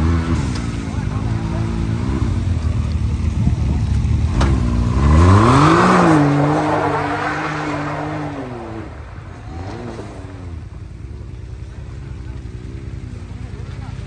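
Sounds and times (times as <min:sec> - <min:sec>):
off-road vehicle engine revving: 0:00.0 - 0:14.0
tires spinning on wet trail: 0:00.0 - 0:14.0.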